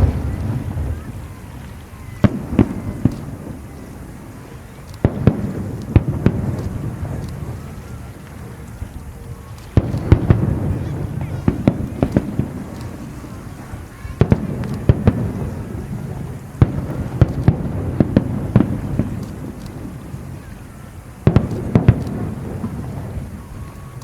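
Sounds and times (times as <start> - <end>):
low rolling rumble: 0.0 - 23.5
fireworks bangs: 0.0 - 24.0.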